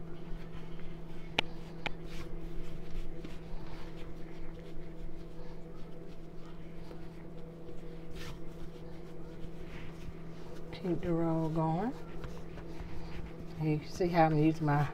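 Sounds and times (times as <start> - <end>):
hands rolling dough: 0.0 - 14.9
steady electrical hum: 0.0 - 14.9.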